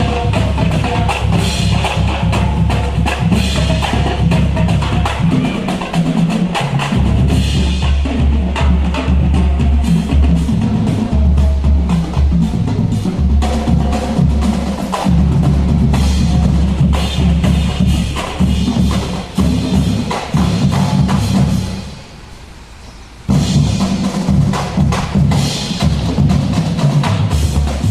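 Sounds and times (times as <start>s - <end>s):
drumline playing bass drums and snares: 0.0s - 22.1s, 23.3s - 27.9s.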